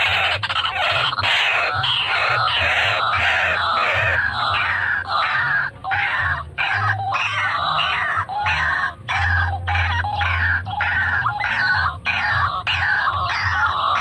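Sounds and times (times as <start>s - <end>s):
waterhen harsh croaking calls: 0.0s - 14.0s.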